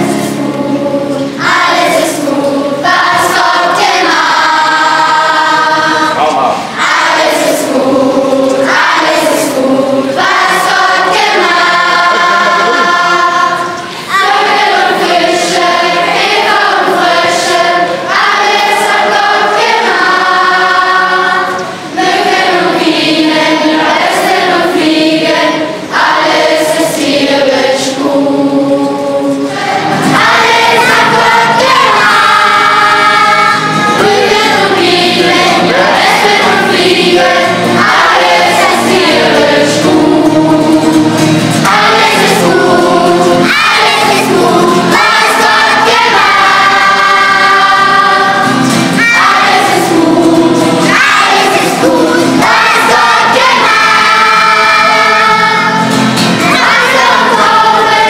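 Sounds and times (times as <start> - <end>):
children singing in chorus: 0.0 - 58.0.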